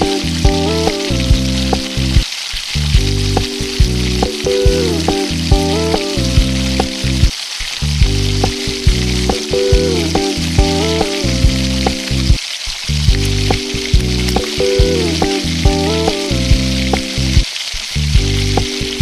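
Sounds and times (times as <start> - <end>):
background music: 0.0 - 2.2, 2.8 - 12.4, 13.0 - 17.4, 18.1 - 19.0
food sizzling in a pan: 0.0 - 19.0.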